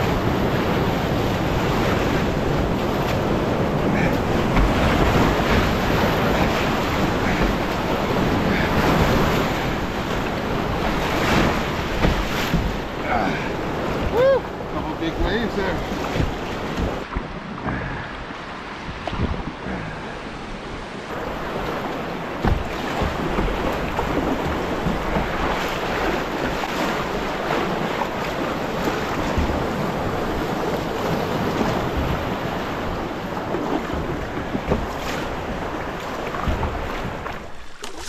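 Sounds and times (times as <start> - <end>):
wind buffeting microphone: 0.0 - 37.6
whitewater rushing: 0.0 - 38.0.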